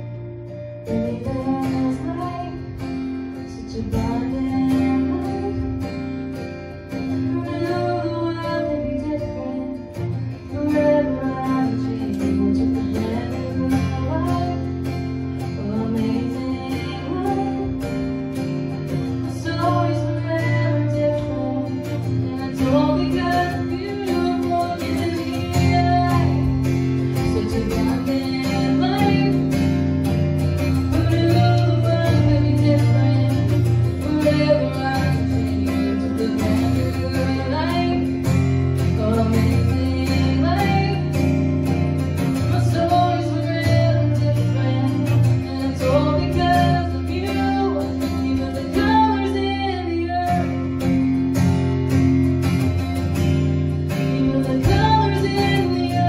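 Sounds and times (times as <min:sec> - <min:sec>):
strummed acoustic guitar: 0:00.0 - 0:56.0
woman singing: 0:00.4 - 0:56.0.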